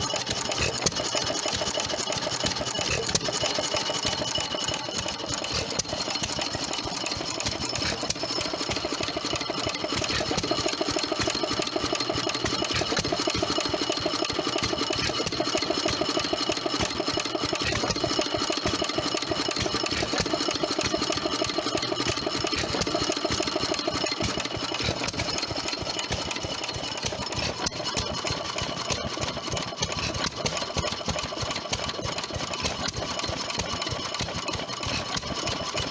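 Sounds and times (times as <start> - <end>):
stationary engine clattering: 0.0 - 35.9.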